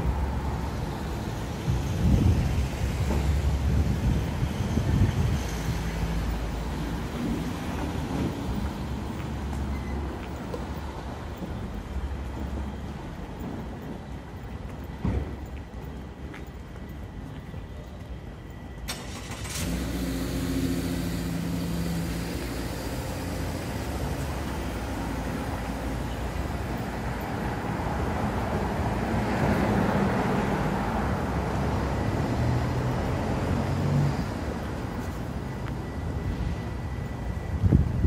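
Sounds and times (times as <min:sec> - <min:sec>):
traffic rushing past: 0:00.0 - 0:14.5, 0:18.9 - 0:38.0.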